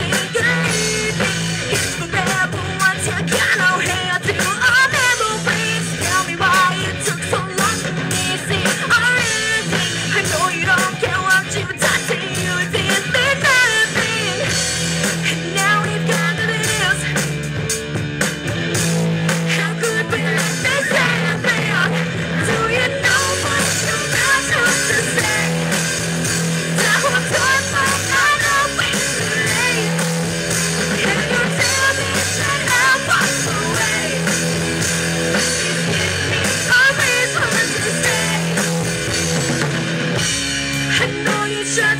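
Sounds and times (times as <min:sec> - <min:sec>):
woman singing: 0:00.0 - 0:17.4, 0:19.3 - 0:39.5, 0:40.8 - 0:41.9
bass guitar: 0:00.0 - 0:41.9
drums: 0:00.0 - 0:41.9
electric guitar: 0:00.0 - 0:41.9.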